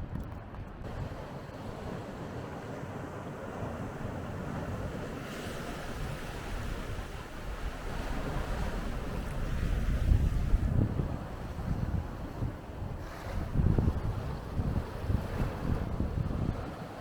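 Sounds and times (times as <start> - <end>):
wind rumbling on microphone: 0.0 - 17.0
sea waves washing: 0.9 - 17.0.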